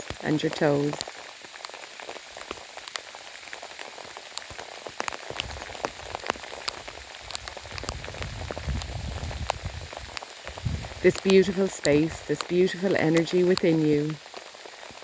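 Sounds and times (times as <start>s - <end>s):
raindrops ticking: 0.0s - 15.0s
soft rain falling: 0.0s - 15.0s.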